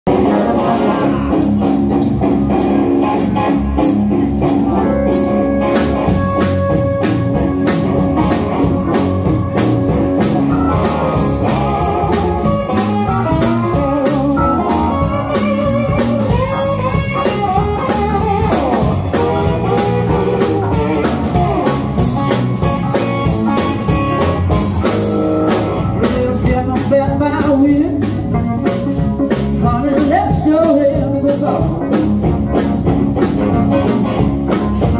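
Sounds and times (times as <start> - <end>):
live blues band playing: 0.1 - 34.9
steady drum beat: 0.1 - 34.9.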